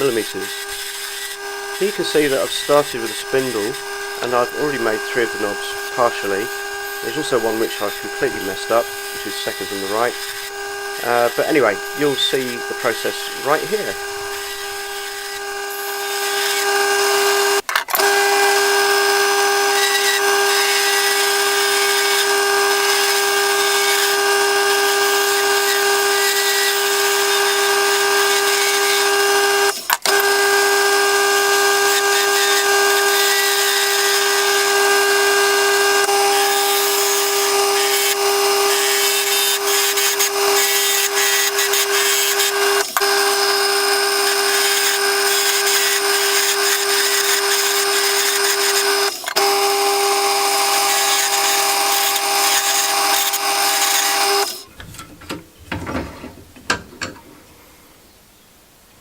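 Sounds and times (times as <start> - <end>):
turning tool cutting wood: 0.0 - 54.7
wood lathe whining: 0.0 - 54.7.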